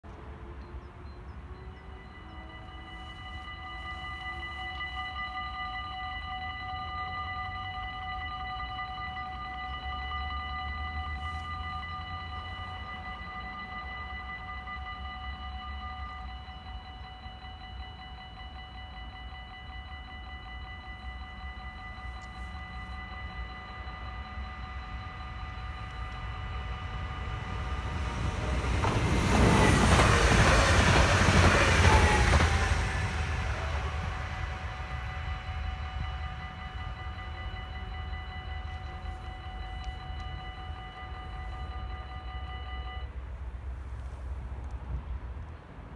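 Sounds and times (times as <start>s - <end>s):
approaching train rush: 0.1s - 45.9s
level crossing bells ringing: 1.6s - 43.3s.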